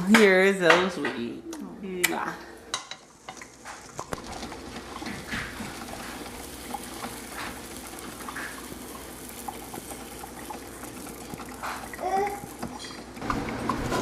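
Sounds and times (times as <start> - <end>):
pancakes sizzling in a pan: 2.7 - 14.0.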